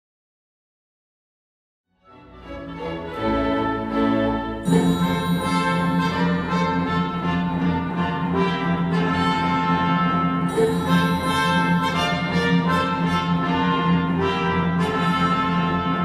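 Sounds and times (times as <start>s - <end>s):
orchestral music over loudspeakers: 2.1s - 16.0s.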